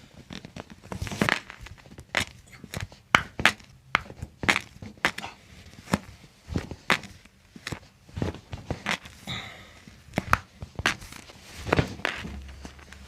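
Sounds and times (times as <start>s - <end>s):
toe joints popping: 0.3s - 9.3s, 10.1s - 13.0s.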